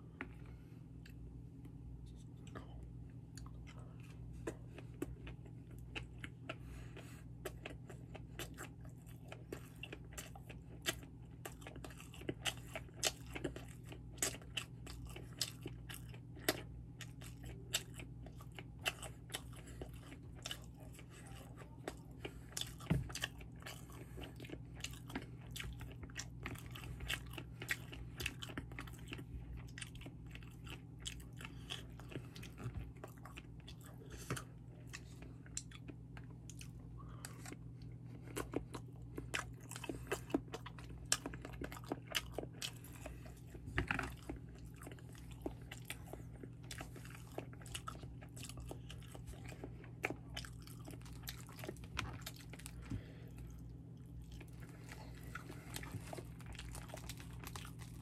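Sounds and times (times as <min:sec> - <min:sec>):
steady low hum: 0:00.0 - 0:58.0
person chewing: 0:00.1 - 0:58.0.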